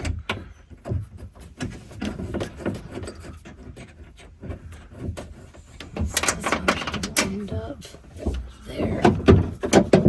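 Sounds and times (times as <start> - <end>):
metal parts clicking and tapping: 0.0 - 10.0.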